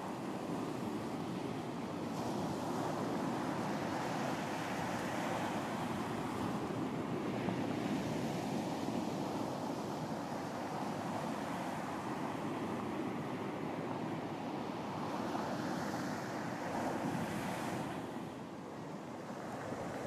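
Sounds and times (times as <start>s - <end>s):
ocean surf on a beach: 0.0s - 20.0s.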